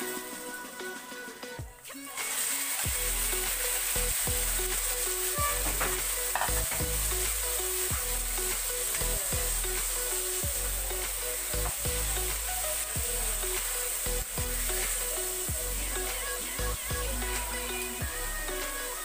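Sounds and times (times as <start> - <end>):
chicken sizzling in hot oil: 1.9 - 19.0.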